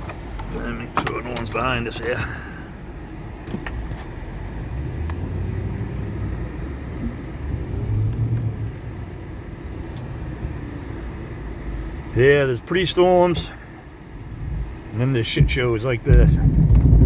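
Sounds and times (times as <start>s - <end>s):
pickup truck engine rumbling: 0.0s - 17.0s.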